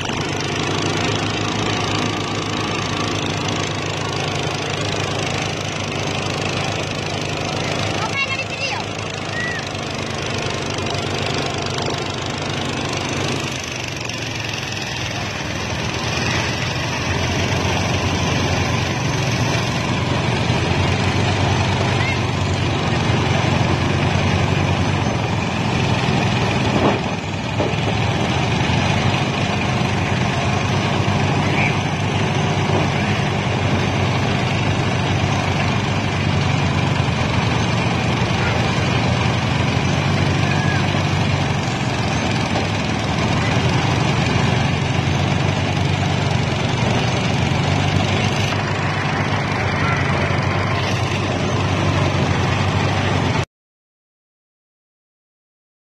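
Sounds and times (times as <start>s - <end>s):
small petrol engine running: 0.0s - 53.4s.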